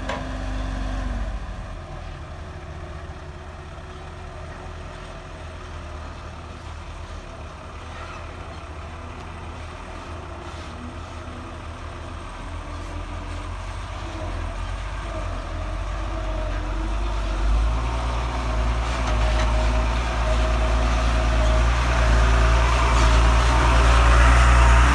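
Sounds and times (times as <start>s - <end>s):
heavy diesel engine droning: 0.0s - 24.9s.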